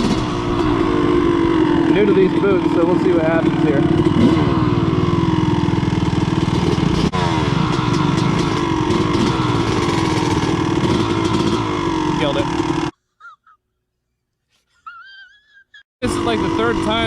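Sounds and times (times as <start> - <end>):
two-stroke dirt bike engine: 0.0 - 12.9, 16.0 - 17.0.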